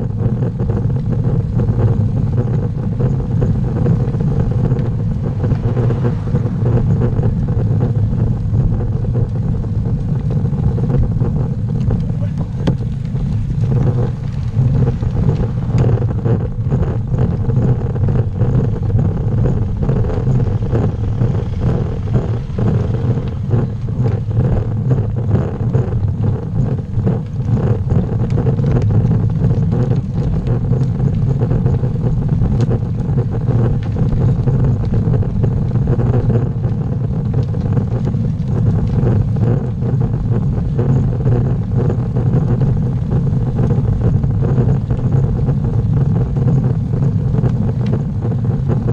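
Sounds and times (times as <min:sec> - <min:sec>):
road noise: 0:00.0 - 0:48.9
wind noise: 0:00.0 - 0:48.9.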